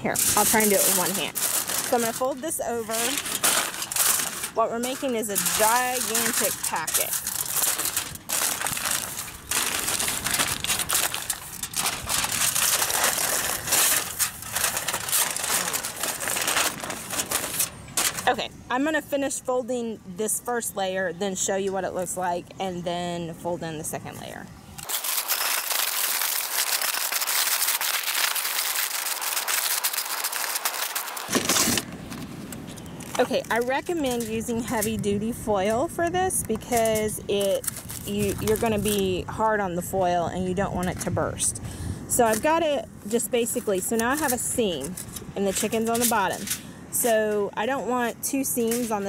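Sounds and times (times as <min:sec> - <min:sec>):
aluminum foil crinkling: 0:00.0 - 0:19.5, 0:24.8 - 0:49.0.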